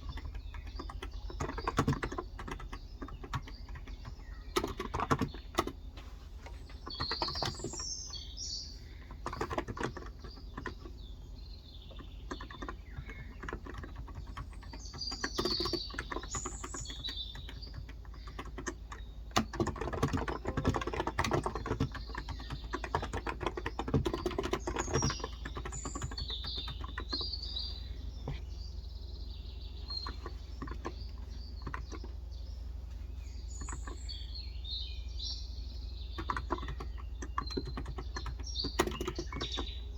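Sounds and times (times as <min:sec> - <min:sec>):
keyboard typing: 0:00.0 - 0:05.8, 0:06.4 - 0:08.3, 0:09.0 - 0:11.1, 0:11.9 - 0:27.6, 0:29.8 - 0:32.2, 0:33.5 - 0:34.2, 0:36.1 - 0:39.8
birds chirping: 0:00.0 - 0:39.9.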